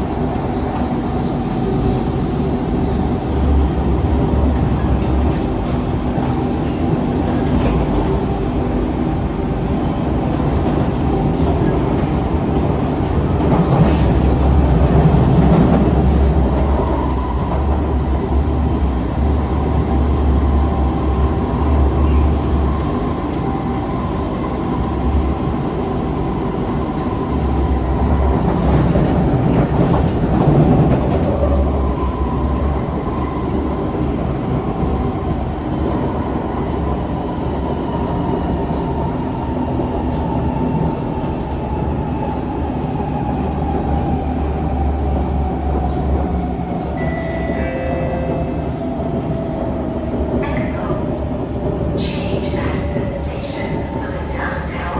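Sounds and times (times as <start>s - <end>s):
train low rumble: 0.0s - 54.9s.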